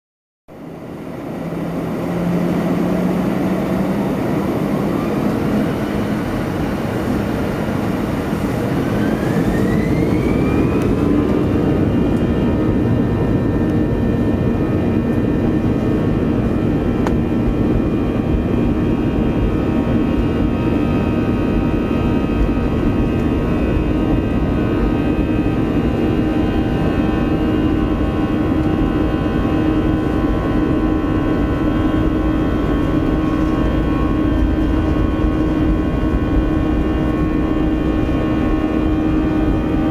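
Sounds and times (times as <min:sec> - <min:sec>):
constant rumble: 0:00.5 - 0:39.9
jet engine whine rising: 0:00.5 - 0:39.9.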